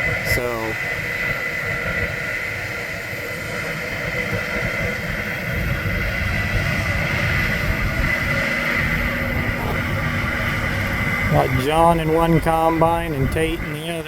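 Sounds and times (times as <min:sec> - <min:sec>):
high machine whine: 0:00.0 - 0:14.0
machinery engine rumble: 0:00.0 - 0:14.0.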